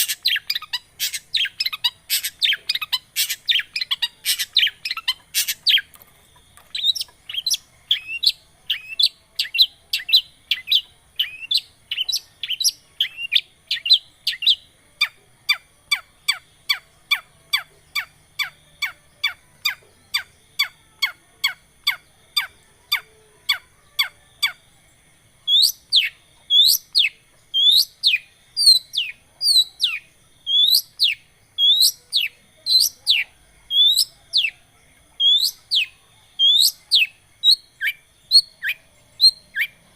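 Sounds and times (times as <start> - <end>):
bird song of sharp downward notes: 0.0 - 39.9.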